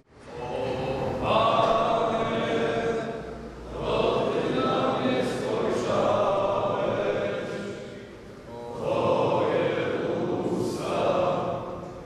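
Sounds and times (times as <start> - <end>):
group singing a hymn: 0.0 - 12.0.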